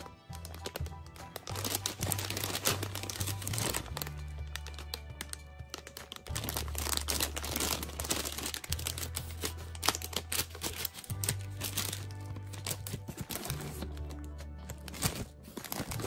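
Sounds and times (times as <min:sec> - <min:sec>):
plastic bag crinkling: 0:00.0 - 0:16.0
soft background music: 0:00.0 - 0:16.0.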